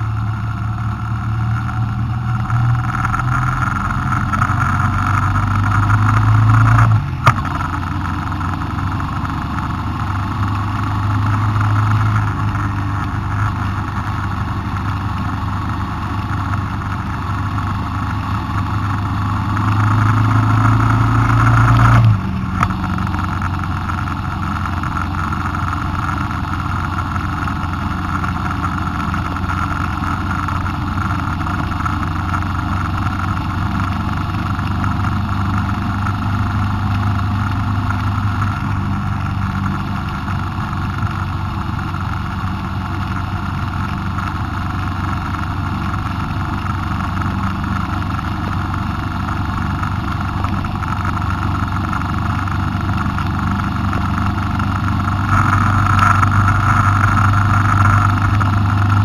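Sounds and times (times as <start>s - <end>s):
vehicle engine: 0.0s - 59.0s.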